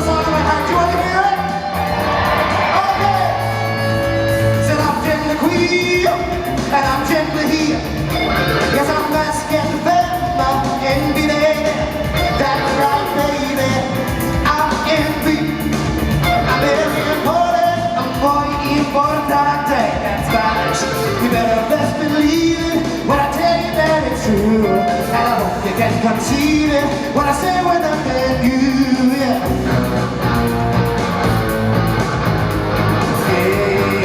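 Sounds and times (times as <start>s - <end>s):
rock-pop band with guitar and bass: 0.0s - 34.0s
person singing: 0.2s - 29.8s, 33.0s - 34.0s.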